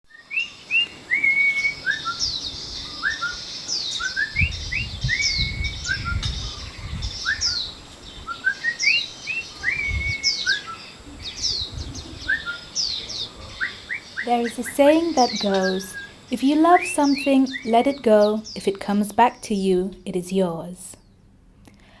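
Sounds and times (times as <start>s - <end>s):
small songbirds chirping: 0.1s - 22.0s.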